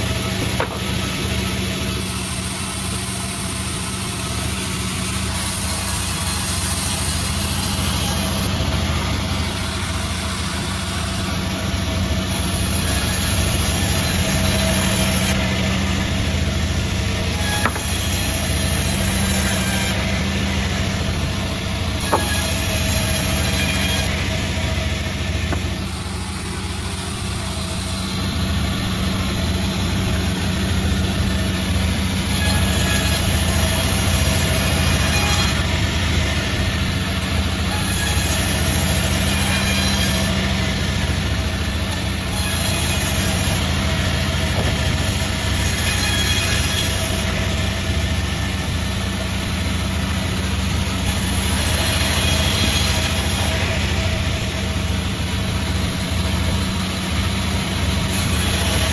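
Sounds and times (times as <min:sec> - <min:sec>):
saw blades cutting wood: 0:00.0 - 0:58.9
sawmill mechanical hum: 0:00.0 - 0:58.9.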